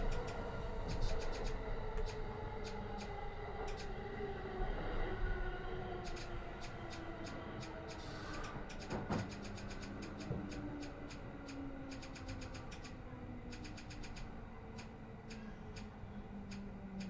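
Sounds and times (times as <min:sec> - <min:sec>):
train equipment hum: 0:00.0 - 0:17.0
faint clicking ticks: 0:00.1 - 0:03.1, 0:03.7 - 0:03.9, 0:06.0 - 0:17.0.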